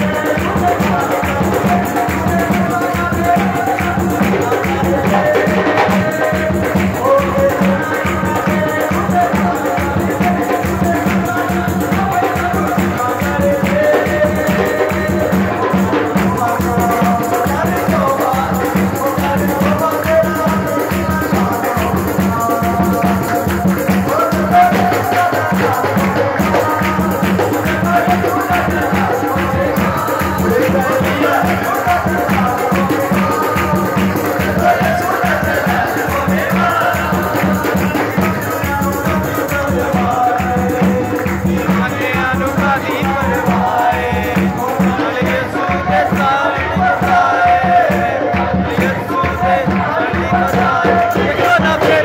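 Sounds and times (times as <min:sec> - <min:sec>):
men singing a hymn: 0:00.0 - 0:52.0
rhythmic percussion: 0:00.0 - 0:52.0
hand-clapping: 0:00.1 - 0:52.0.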